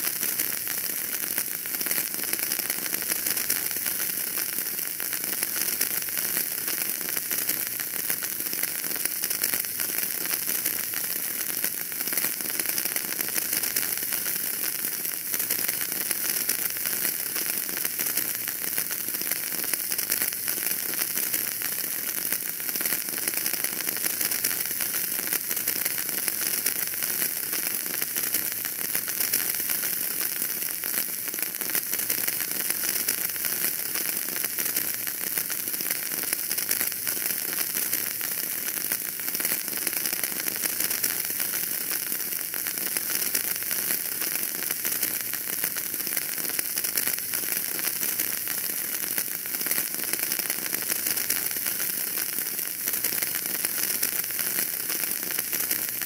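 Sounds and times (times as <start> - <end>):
fire crackling in a fireplace: 0.2 - 56.0.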